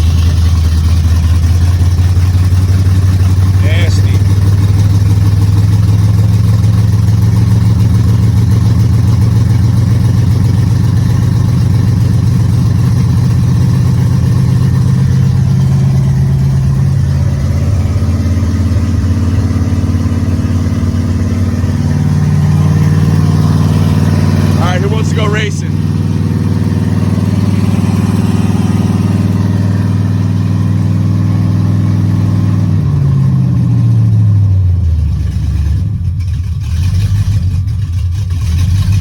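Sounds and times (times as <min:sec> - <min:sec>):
engine idling loud: 0:00.0 - 0:39.0.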